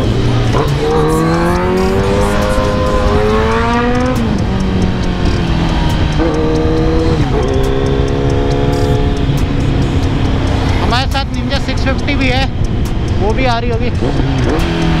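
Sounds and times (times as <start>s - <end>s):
motorcycle engine accelerating: 0.0s - 15.0s
wind and road rush: 0.0s - 15.0s.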